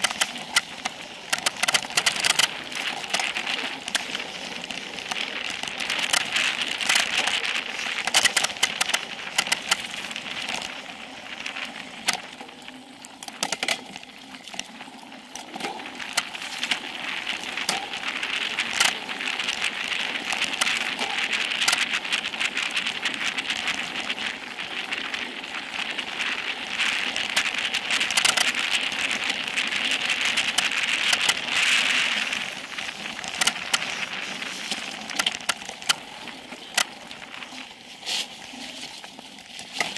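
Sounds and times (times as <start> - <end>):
bike clicks and rattles: 0.0 - 39.9
bike tyres hissing on dirt: 2.1 - 12.1, 14.7 - 39.9.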